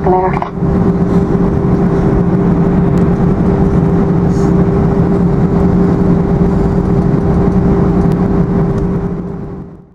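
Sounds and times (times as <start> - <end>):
airplane cabin rumble: 0.0 - 9.9
low hum: 0.0 - 9.9.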